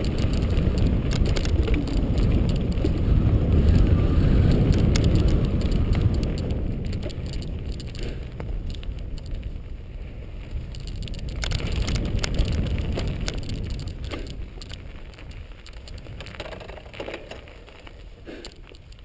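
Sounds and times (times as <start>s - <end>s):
bike tyres rattling on trail: 0.0s - 19.0s
wind rumble on microphone: 0.0s - 19.0s.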